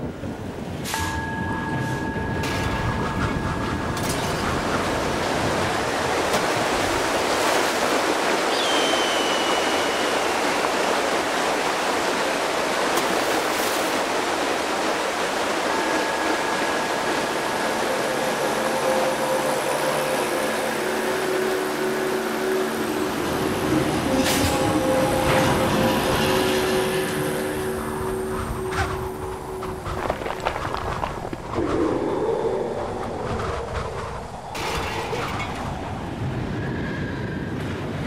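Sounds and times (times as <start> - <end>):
steady rushing noise: 2.0 - 38.0.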